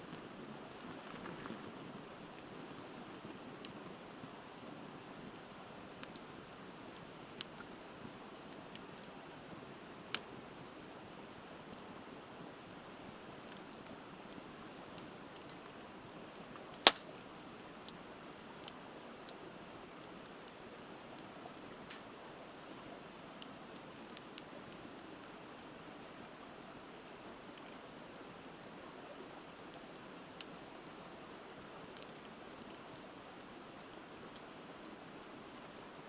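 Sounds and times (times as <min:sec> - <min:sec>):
wood fire crackling and popping: 0:00.0 - 0:10.7, 0:11.4 - 0:25.4, 0:29.1 - 0:36.0.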